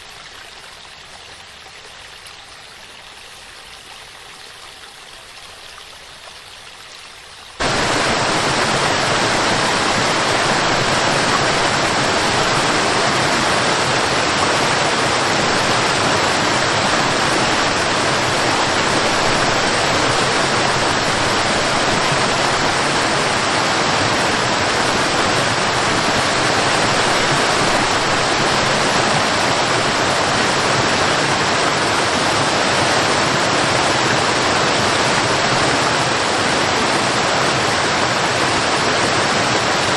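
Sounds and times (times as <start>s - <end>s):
waterfall rushing: 7.6s - 39.9s.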